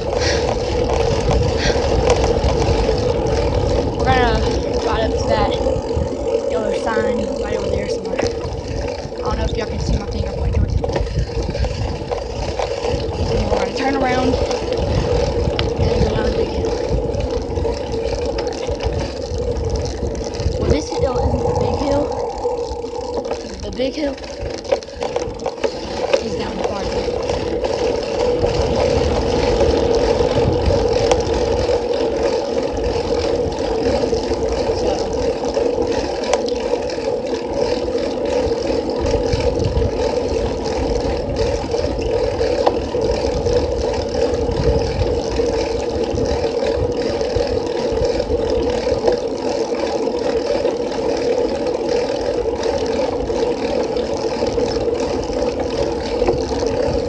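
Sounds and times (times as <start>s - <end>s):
bicycle road noise: 0.0s - 57.0s
wind buffeting microphone: 0.0s - 57.0s.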